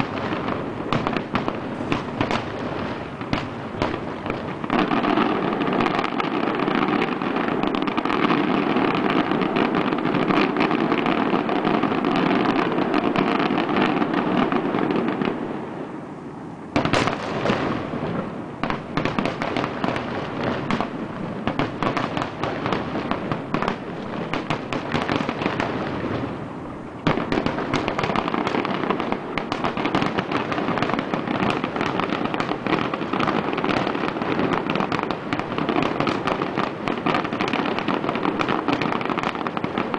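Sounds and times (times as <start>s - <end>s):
fireworks booms: 0.0s - 15.6s, 16.7s - 39.9s
fireworks bangs and crackles: 0.0s - 15.9s, 16.7s - 39.9s.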